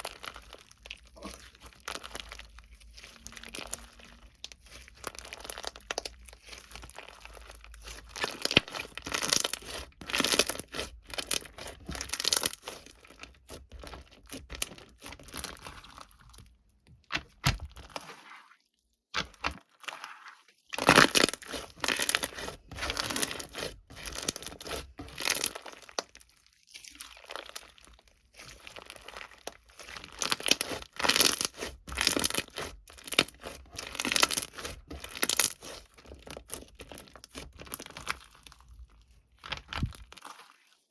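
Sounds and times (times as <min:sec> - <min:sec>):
wrapping material crinkling and tearing: 0:00.0 - 0:16.6, 0:19.2 - 0:40.9.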